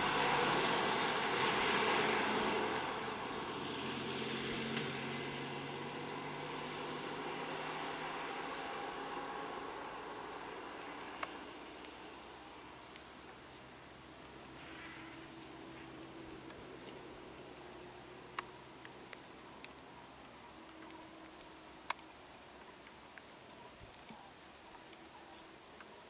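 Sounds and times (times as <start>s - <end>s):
vehicle engine hum: 0.0s - 22.6s.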